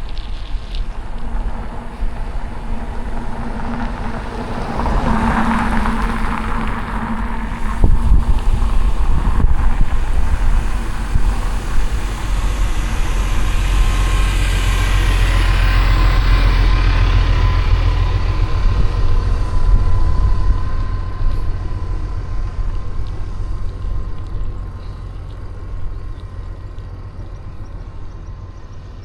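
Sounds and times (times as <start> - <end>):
motor vehicles passing: 0.0 - 29.0
wind rumbling on microphone: 0.0 - 29.0.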